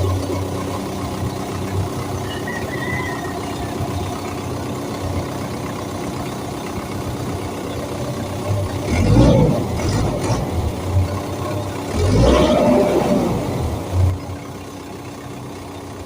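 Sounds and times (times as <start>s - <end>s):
diesel engine idling: 0.0s - 16.0s
low engine rumble: 0.0s - 16.0s.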